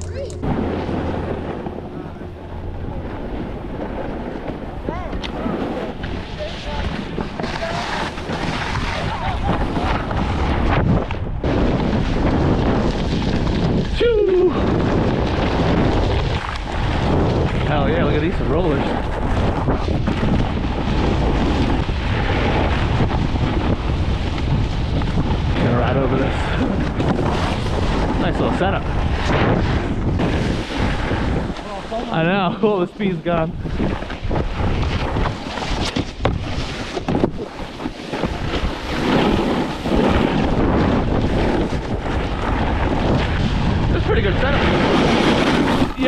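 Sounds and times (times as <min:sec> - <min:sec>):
wind buffeting microphone: 0:00.0 - 0:46.0
snowboard scraping icy snow: 0:05.4 - 0:46.0.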